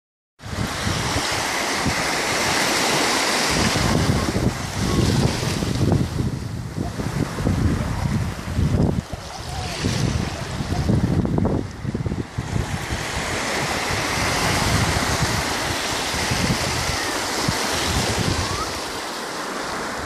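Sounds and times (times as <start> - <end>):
wind buffeting microphone: 0.4 - 19.0
small waves washing in: 0.4 - 20.0.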